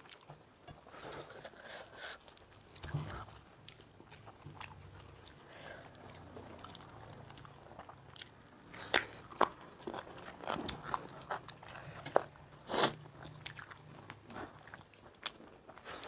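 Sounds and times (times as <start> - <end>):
chewing and biting: 0.0 - 16.0.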